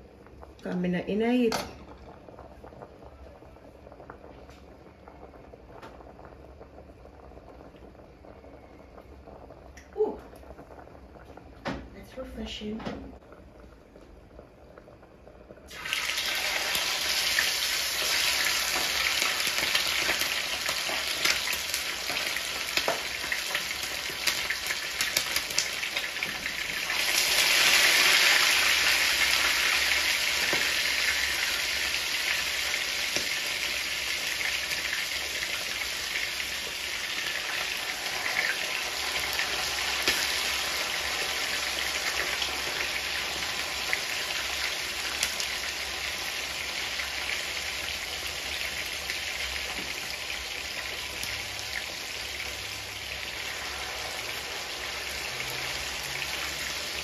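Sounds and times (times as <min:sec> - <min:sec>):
chicken frying in hot oil: 0:00.0 - 0:57.0.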